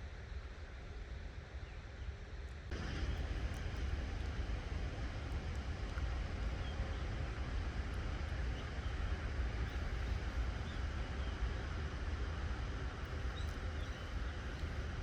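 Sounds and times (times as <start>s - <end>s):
low rumble: 2.7s - 15.0s.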